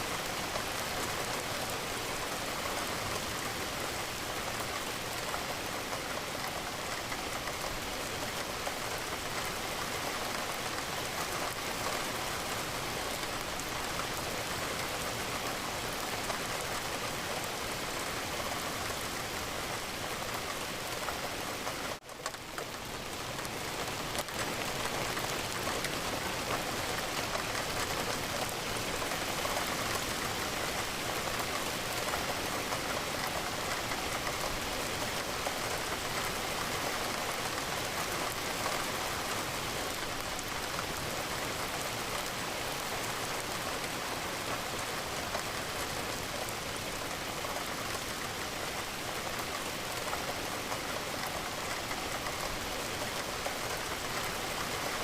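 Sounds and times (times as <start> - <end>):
rain pattering on a window: 0.0 - 55.0.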